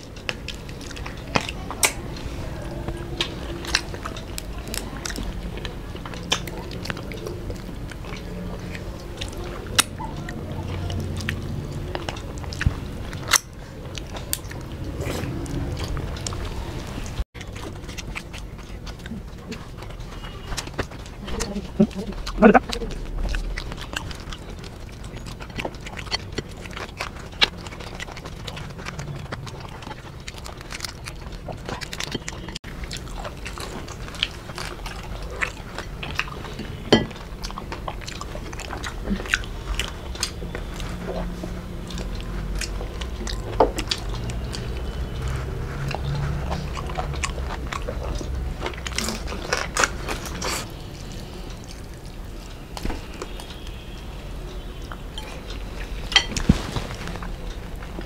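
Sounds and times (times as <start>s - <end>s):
people chewing: 0.0s - 58.0s.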